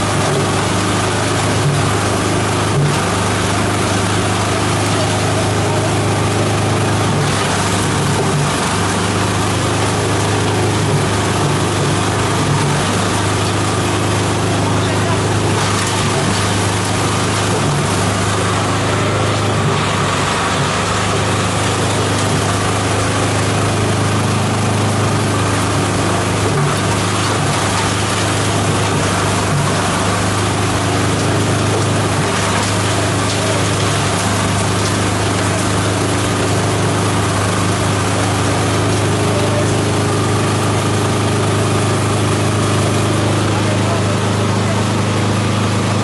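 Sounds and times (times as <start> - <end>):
shredder machine shredding plants: 0.0 - 46.0.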